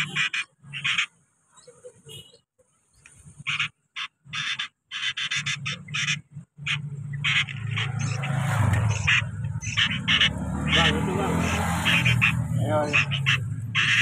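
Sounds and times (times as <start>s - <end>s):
chicks harsh begging calls: 0.0s - 2.4s, 3.2s - 14.0s.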